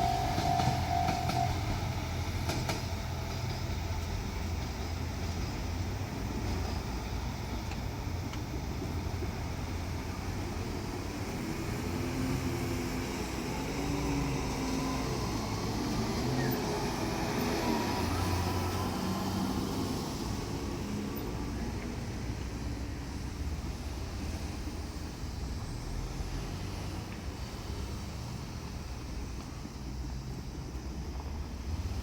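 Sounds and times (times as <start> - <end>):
vehicle engine droning: 0.0 - 32.0.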